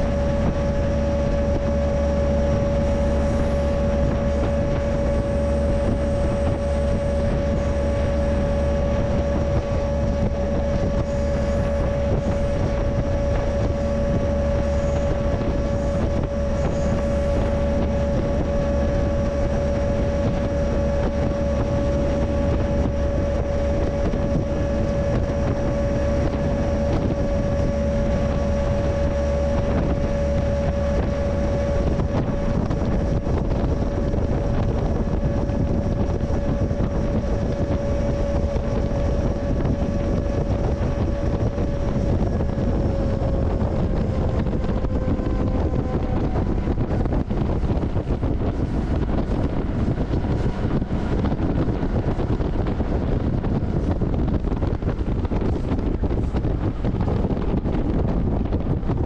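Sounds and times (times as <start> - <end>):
high whine: 0.0 - 59.0.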